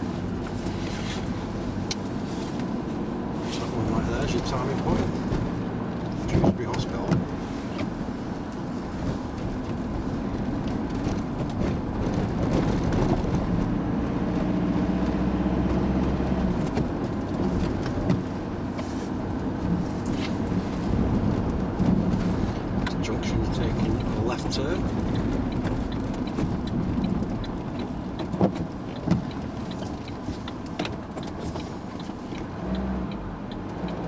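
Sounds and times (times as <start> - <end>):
tyres on wet road: 0.0 - 34.0
vehicle engine from inside: 0.0 - 34.0.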